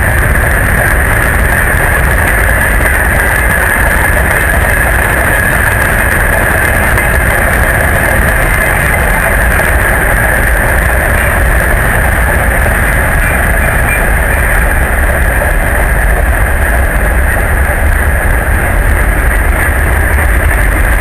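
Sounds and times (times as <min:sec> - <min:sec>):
freight train rumble: 0:00.0 - 0:21.0.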